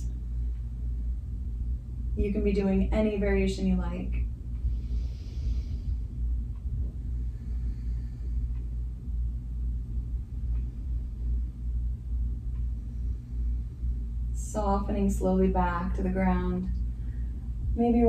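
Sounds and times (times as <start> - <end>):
low background rumble and hum: 0.0 - 18.0.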